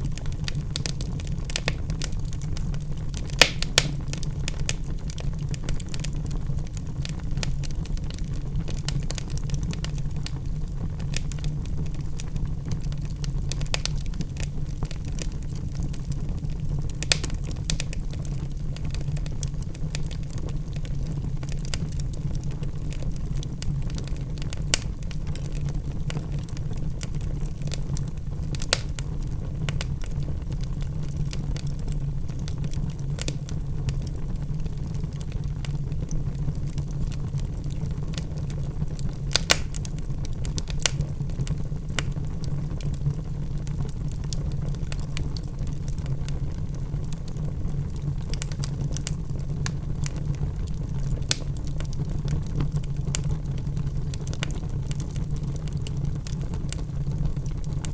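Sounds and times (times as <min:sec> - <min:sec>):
fire rumbling: 0:00.0 - 0:57.9
wood fire crackles and pops: 0:00.0 - 0:57.9.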